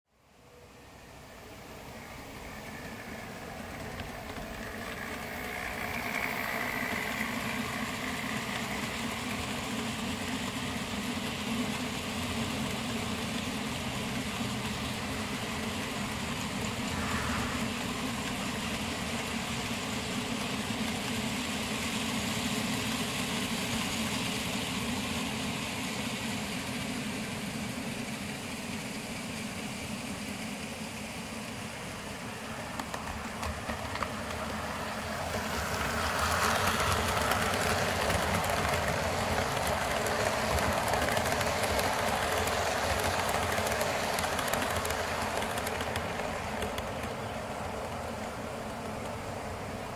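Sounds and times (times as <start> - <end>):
model trains rumbling on track: 0.3 - 49.9.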